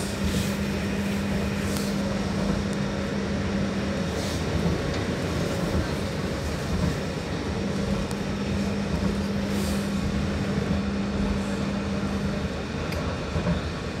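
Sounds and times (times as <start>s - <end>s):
tram rumbling along track: 0.0s - 14.0s.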